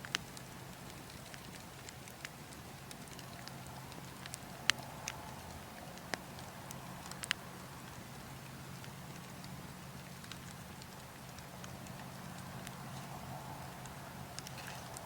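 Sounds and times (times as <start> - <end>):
burning logs crackling: 0.0 - 15.0
low rush of wind: 0.0 - 15.0.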